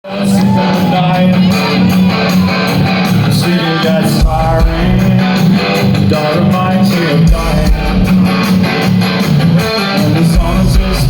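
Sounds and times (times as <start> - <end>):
live band playing loudly: 0.0 - 11.0
strummed guitars: 0.0 - 11.0
deep bass: 0.2 - 11.0.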